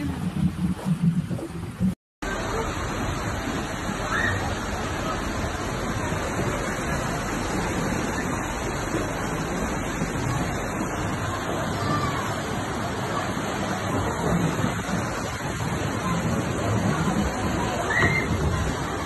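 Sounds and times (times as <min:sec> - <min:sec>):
floodwater rushing down a street: 0:00.0 - 0:19.0.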